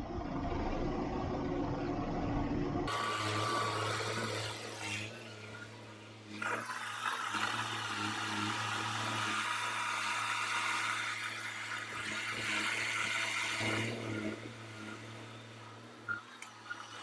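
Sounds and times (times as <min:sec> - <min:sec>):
truck engine humming: 0:00.0 - 0:17.0
hydraulic hiss and whir: 0:02.9 - 0:17.0.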